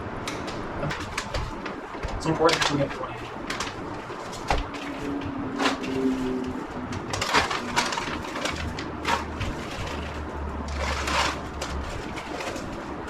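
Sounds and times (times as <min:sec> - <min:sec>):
low steady hum: 0:00.0 - 0:13.0
bag crinkling: 0:00.4 - 0:13.0.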